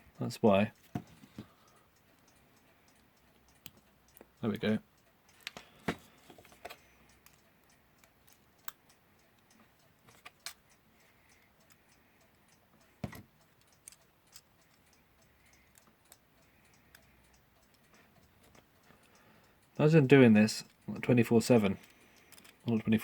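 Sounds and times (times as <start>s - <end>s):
tools clicking on clock parts: 0.0s - 23.0s.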